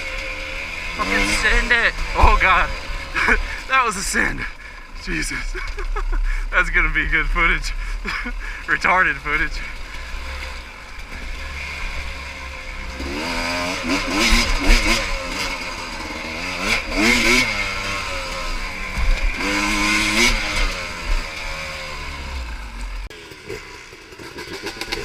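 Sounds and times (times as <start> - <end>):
motorbike engine revving hard: 0.0 - 25.0.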